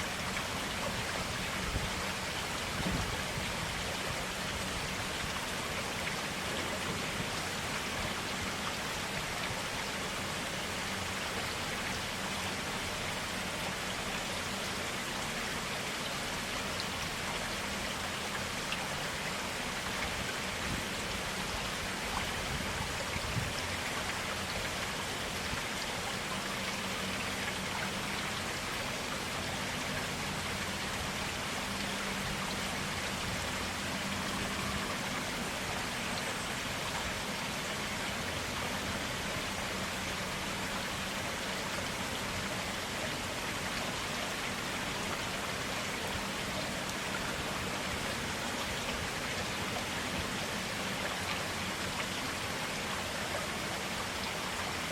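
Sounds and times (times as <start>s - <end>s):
forest stream flowing: 0.0s - 54.9s.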